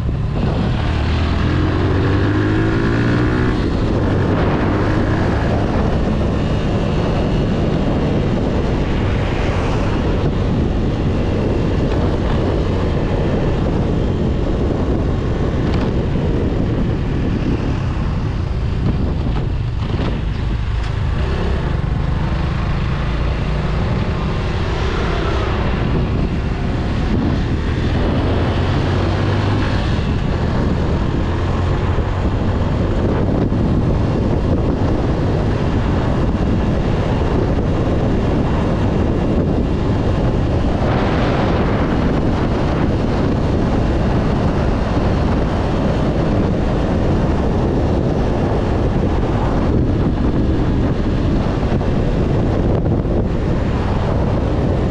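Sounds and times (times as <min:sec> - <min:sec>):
motorcycle engine accelerating: 0:00.0 - 0:54.9
wind rushing on microphone: 0:00.0 - 0:54.9.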